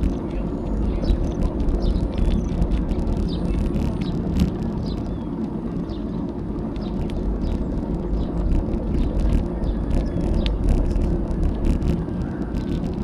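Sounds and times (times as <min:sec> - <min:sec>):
bicycle tyre noise: 0:00.0 - 0:13.0
bike ticks and rattles: 0:00.0 - 0:13.0
wind noise on microphone: 0:00.0 - 0:13.0.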